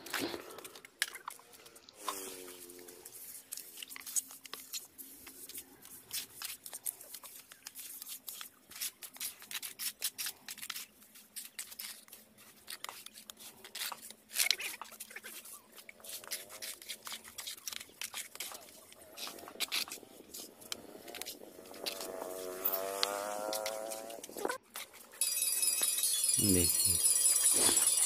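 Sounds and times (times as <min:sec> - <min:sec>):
trowels scraping wet mortar: 0:00.0 - 0:25.1.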